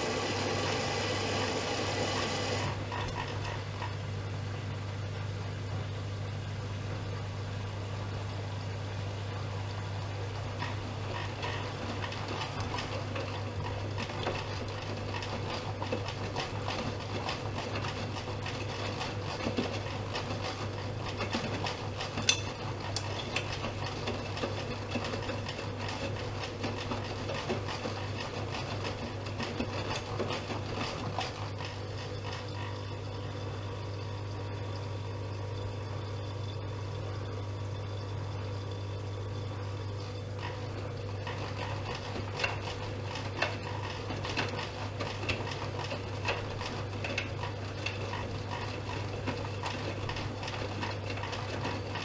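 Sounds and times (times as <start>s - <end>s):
washing machine motor hum: 0.0s - 52.0s
water sloshing in washing machine drum: 10.0s - 52.0s.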